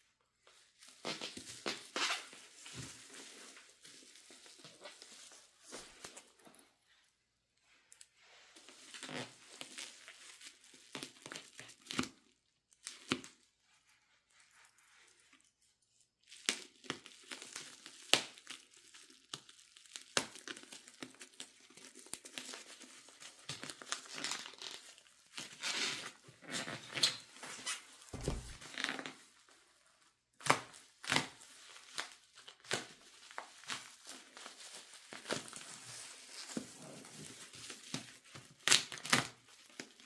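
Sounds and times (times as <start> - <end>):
wrapping crinkling and tearing: 0.4 - 7.1, 8.0 - 40.0.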